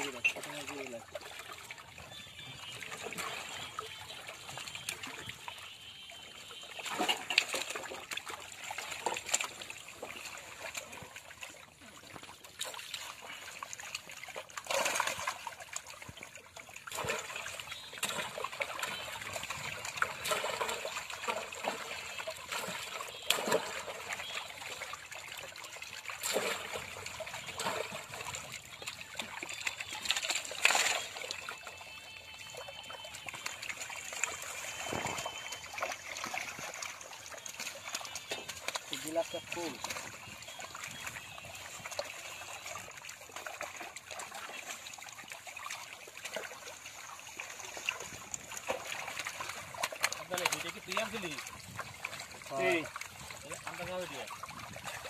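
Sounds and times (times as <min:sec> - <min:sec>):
fish splashing: 0:00.0 - 0:55.0
water trickling and dripping: 0:00.0 - 0:55.0.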